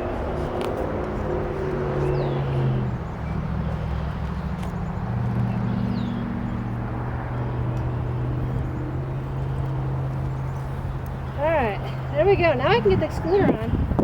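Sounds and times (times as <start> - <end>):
honeybees buzzing: 0.0 - 13.8.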